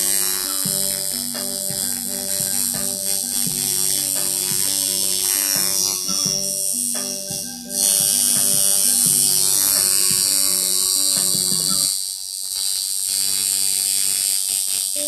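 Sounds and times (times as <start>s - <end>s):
tattoo machine buzzing: 0.0s - 15.0s.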